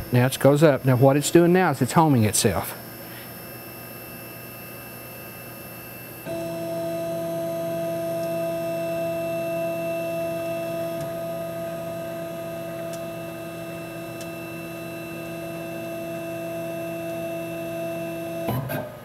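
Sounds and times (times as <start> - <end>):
machine humming steadily: 0.0 - 19.0.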